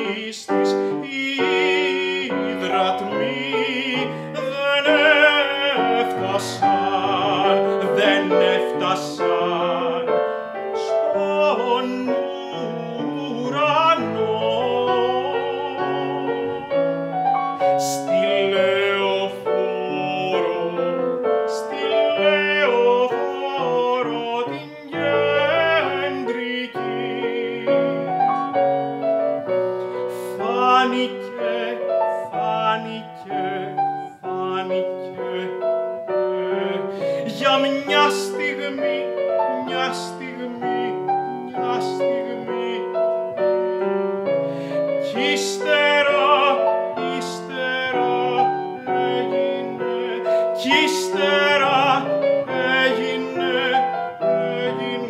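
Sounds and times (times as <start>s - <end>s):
grand piano: 0.0s - 55.0s
man singing operatically: 0.0s - 55.0s.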